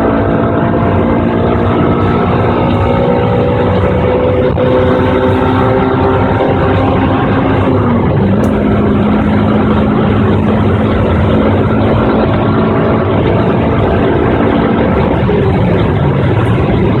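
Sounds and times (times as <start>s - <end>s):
car engine exhaust revving: 0.0s - 17.0s.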